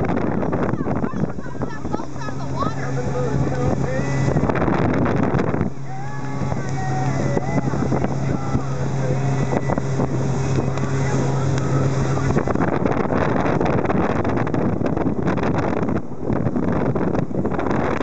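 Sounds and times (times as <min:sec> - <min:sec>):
outboard motors droning: 0:00.0 - 0:18.0
wind and water rushing: 0:00.0 - 0:18.0.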